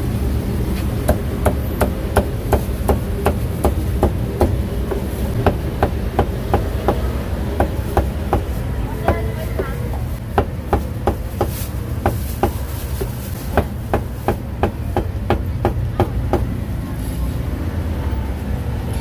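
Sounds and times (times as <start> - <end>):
street traffic hum: 0.0 - 19.0.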